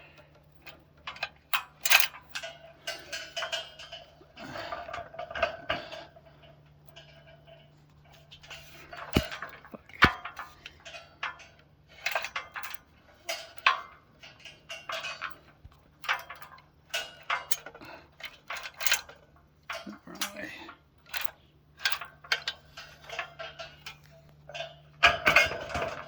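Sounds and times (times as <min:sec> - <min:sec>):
metal clanking and scraping: 0:00.6 - 0:26.0.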